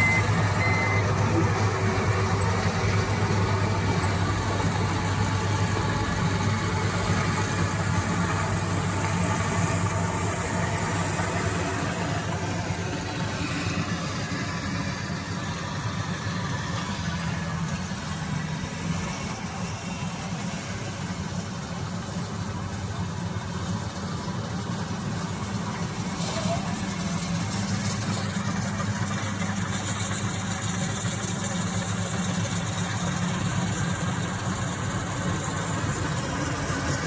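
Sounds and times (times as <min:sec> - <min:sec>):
farm machine engine humming: 0:00.0 - 0:37.0.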